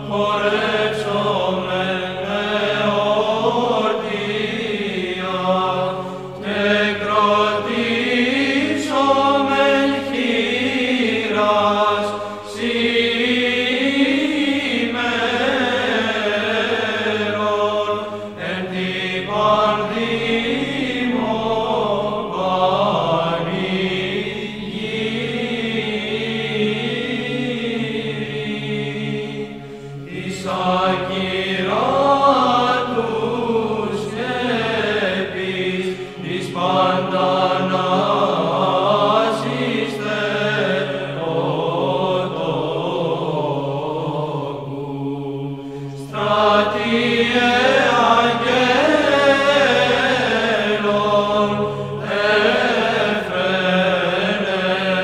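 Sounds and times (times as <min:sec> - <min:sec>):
chant melody: 0:00.0 - 0:55.0.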